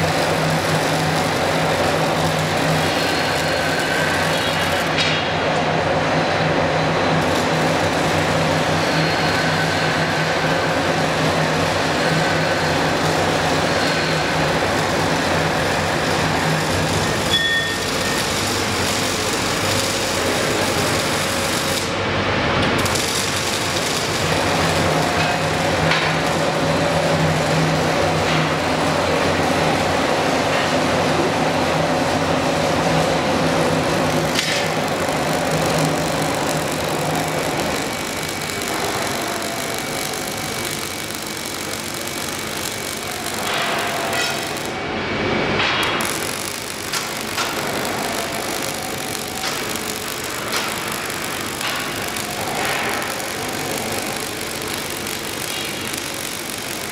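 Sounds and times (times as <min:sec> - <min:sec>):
welding arc crackling buzz: 0:00.0 - 0:56.9.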